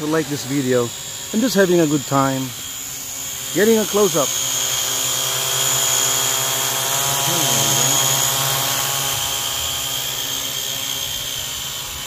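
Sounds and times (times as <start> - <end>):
drone propellers buzzing: 0.0 - 12.0.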